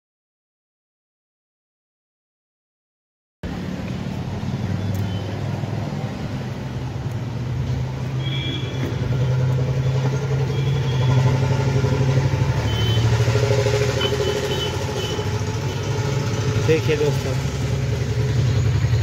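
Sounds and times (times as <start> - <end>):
low engine hum: 3.4 - 19.0.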